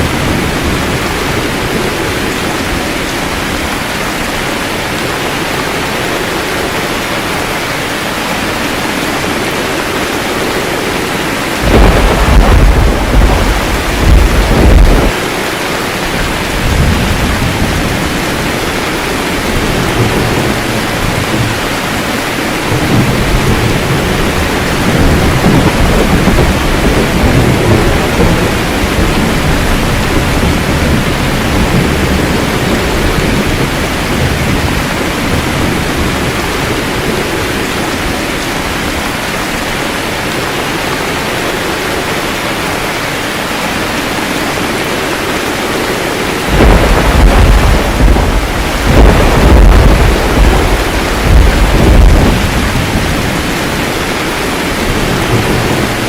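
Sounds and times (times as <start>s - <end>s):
thunder clap and rumbles: 0.0s - 43.4s, 44.3s - 56.0s
heavy rain: 0.0s - 56.0s.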